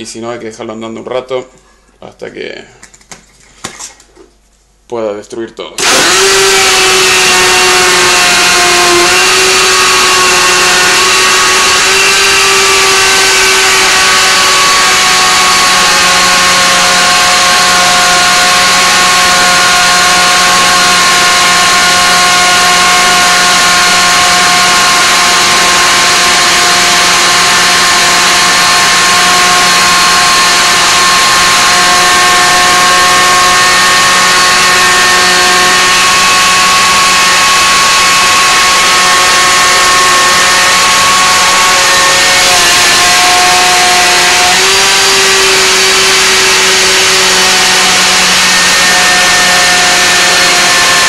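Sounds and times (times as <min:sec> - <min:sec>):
blender motor whining: 0:05.8 - 0:51.0.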